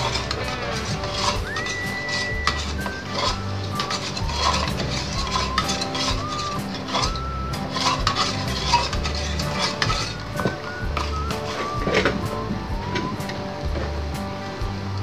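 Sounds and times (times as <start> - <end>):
spoon scraping metal pot: 0.0 - 12.4
background music: 0.0 - 15.0.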